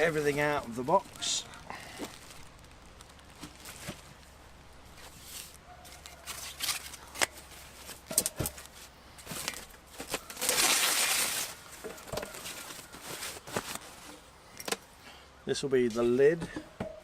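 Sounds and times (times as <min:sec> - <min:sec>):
packaging crinkling and rustling: 0:00.0 - 0:14.8.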